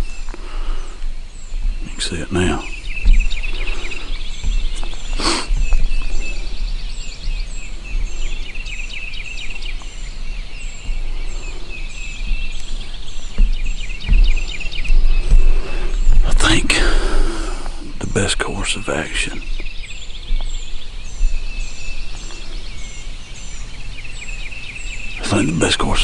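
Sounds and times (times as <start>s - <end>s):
wind rumble on microphone: 0.0s - 18.0s, 19.4s - 26.0s
songbirds chirping: 0.0s - 26.0s.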